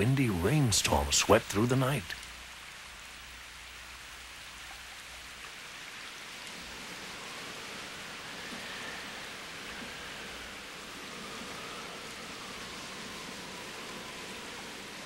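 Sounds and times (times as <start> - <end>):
heavy rain hissing: 0.0 - 15.0
wind: 0.0 - 15.0.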